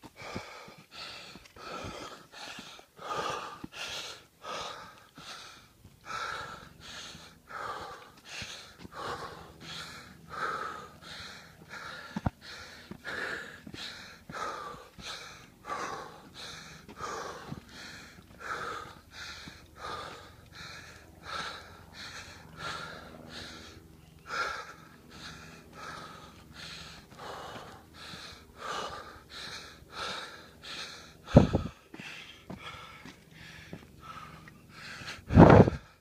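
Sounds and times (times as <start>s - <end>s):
person breathing hard: 0.0s - 36.0s.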